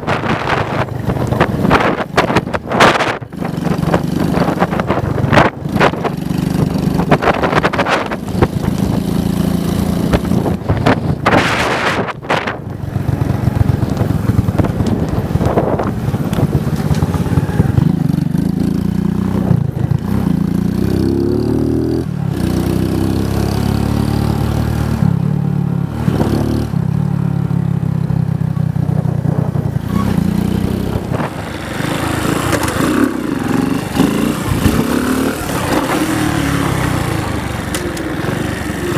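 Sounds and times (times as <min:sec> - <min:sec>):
wind buffeting microphone: 0:00.0 - 0:21.2, 0:28.1 - 0:38.9
motorcycle engine revving: 0:00.0 - 0:38.9.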